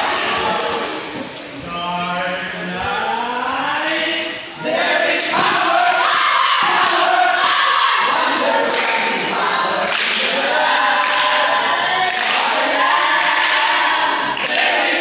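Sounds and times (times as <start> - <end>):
voices chanting a cheer: 0.0 - 1.3, 3.0 - 15.0.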